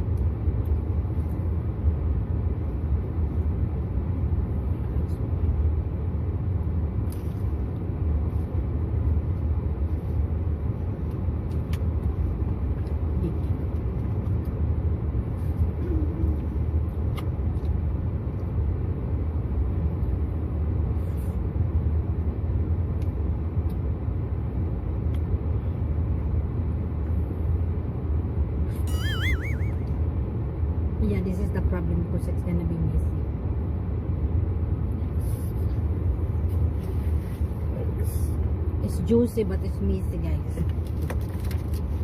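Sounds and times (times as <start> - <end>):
car engine rumble: 0.0 - 42.0.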